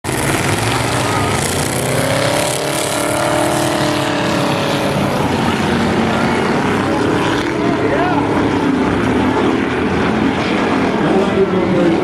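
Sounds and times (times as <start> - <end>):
race car engines roaring: 0.0 - 12.0
car engine passing close: 0.1 - 12.0.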